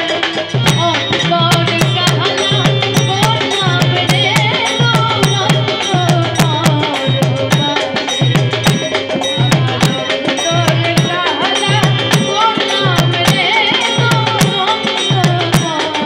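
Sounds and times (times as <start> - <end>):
hand drums beating: 0.0 - 16.0
sharp clicking percussion: 0.0 - 16.0
woman singing: 0.0 - 16.0.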